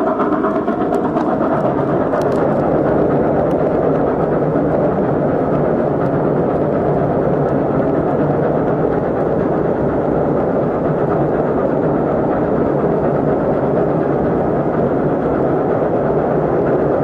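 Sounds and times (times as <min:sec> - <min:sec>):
train rumbling through a tunnel: 0:00.0 - 0:17.0.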